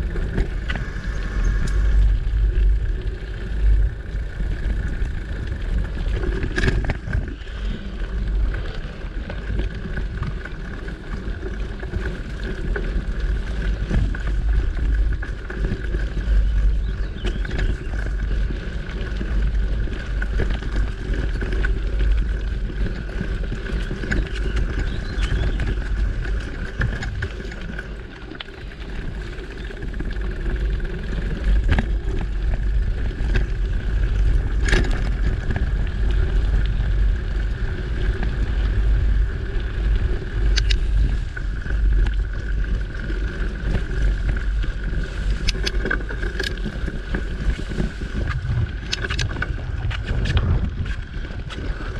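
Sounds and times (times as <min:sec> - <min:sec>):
bike knocking and rattling: 0:00.0 - 0:51.9
wind and tyre rumble: 0:00.0 - 0:51.9.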